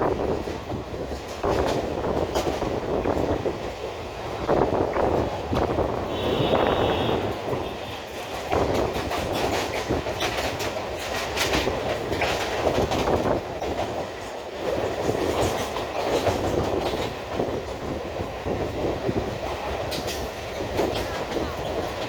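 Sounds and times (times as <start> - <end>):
train rumbling: 0.0 - 22.0
wheels clattering over rail joints: 0.0 - 22.0.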